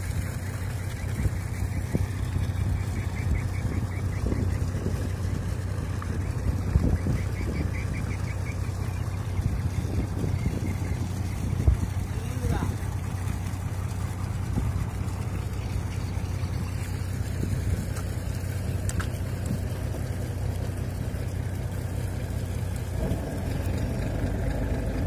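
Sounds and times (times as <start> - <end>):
motor boat engine droning: 0.0 - 25.0.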